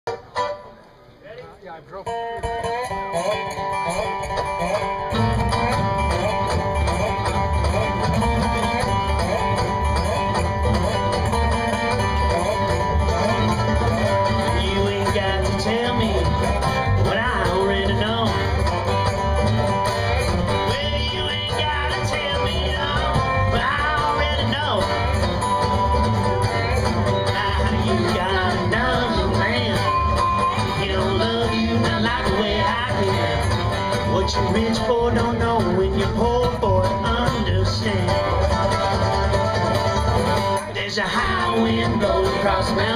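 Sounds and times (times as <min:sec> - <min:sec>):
guitar: 0:00.0 - 0:42.9
banjo: 0:00.1 - 0:01.2, 0:02.0 - 0:42.9
bluegrass string band playing: 0:00.1 - 0:42.9
steady bass beat: 0:03.8 - 0:40.5.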